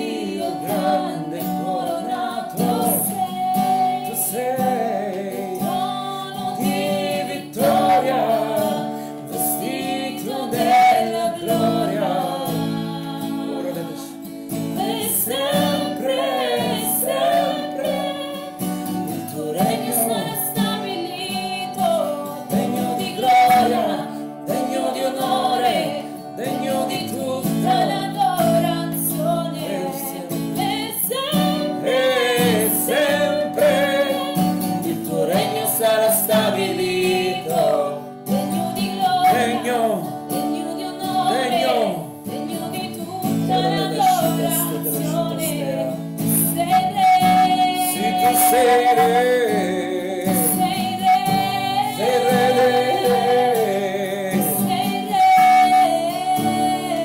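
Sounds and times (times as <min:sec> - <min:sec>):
acoustic guitar: 0:00.0 - 0:57.0
woman singing worship song: 0:00.0 - 0:57.0.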